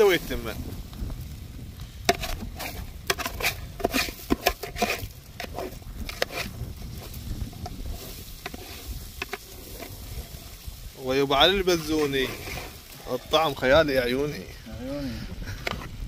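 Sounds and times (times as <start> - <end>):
stew crackling in a pot: 0.0 - 14.3.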